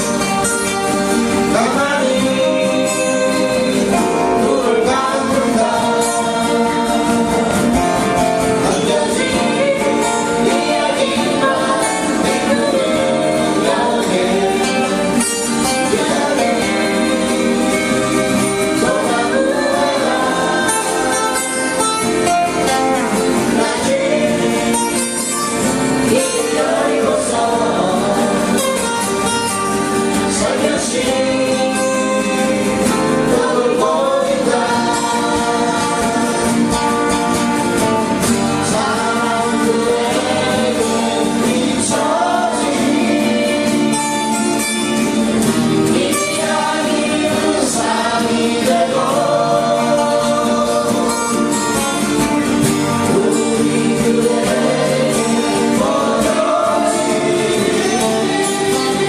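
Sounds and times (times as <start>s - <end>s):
strummed acoustic guitars: 0.0s - 59.0s
person singing into microphone: 1.4s - 29.3s, 30.1s - 37.2s, 38.4s - 45.1s, 45.8s - 52.2s, 52.8s - 59.0s.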